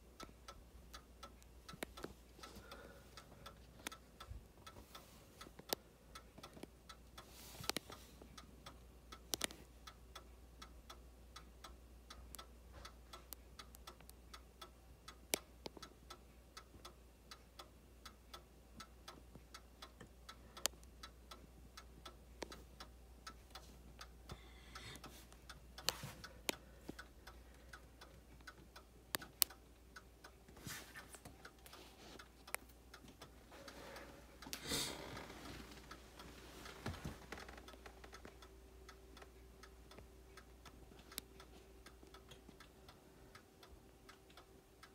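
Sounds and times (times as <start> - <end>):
clock ticking: 0.0 - 44.9.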